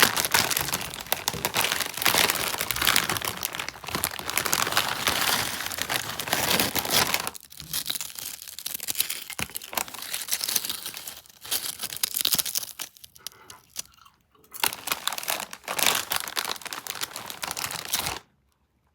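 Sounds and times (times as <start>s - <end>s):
plastic bag crinkling and tearing: 0.0s - 13.9s, 14.5s - 18.3s
potato chips crunching: 0.0s - 18.3s.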